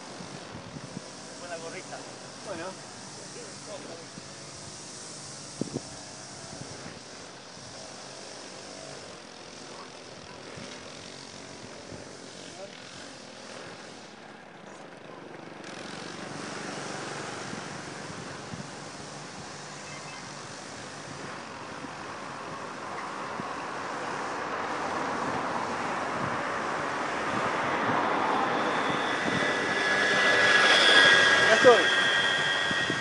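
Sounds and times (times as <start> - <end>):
aircraft drone overhead: 0.0 - 33.0
steady whining tones: 0.0 - 33.0.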